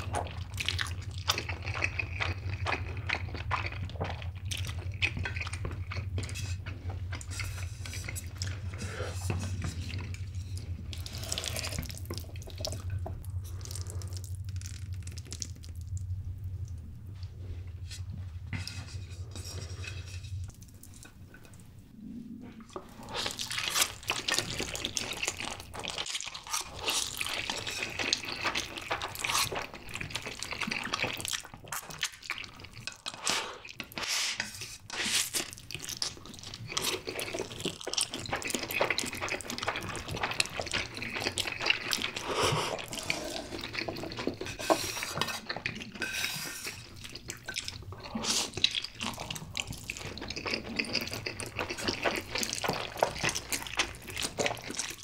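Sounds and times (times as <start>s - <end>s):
slurping and chewing noodles: 0.0s - 16.1s, 16.7s - 55.0s.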